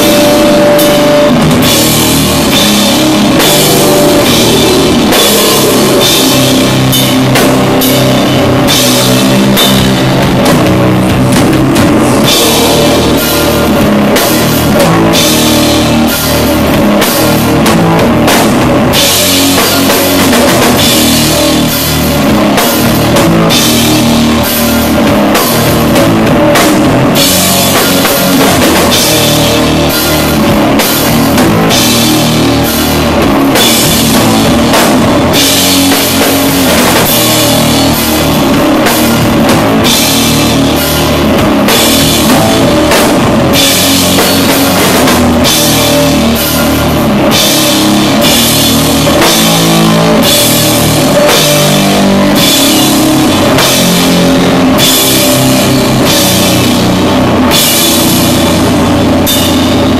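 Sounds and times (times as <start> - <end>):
cymbal crashes: 0.0 - 59.9
doom metal guitar and bass chords: 0.0 - 59.9
heavy drumming: 0.0 - 59.9.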